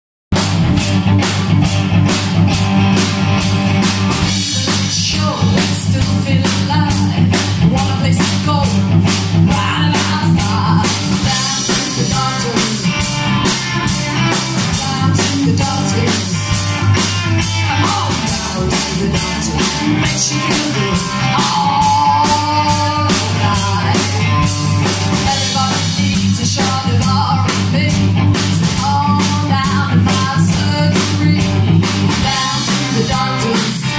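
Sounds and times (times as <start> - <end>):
drum kit beat: 0.3 - 33.9
electric guitars: 0.3 - 33.9
woman singing: 4.3 - 13.2, 13.9 - 24.5, 25.1 - 33.9.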